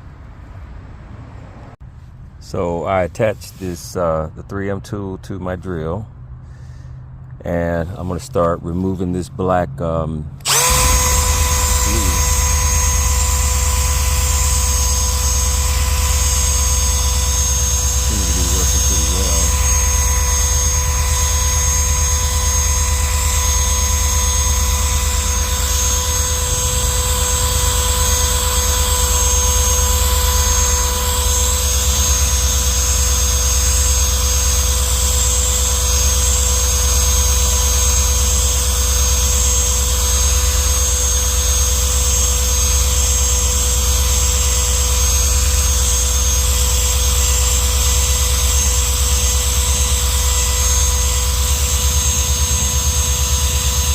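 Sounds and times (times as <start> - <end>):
drill motor whining: 10.4 - 53.9.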